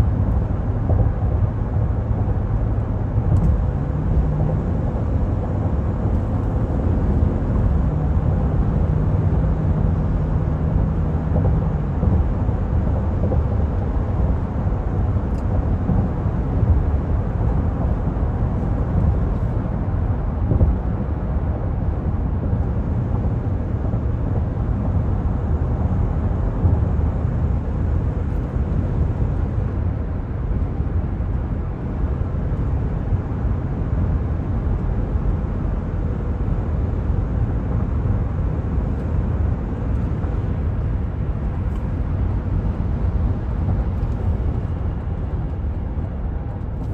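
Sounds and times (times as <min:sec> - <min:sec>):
low engine hum: 0:00.0 - 0:46.9
tyre and road noise: 0:00.0 - 0:46.9.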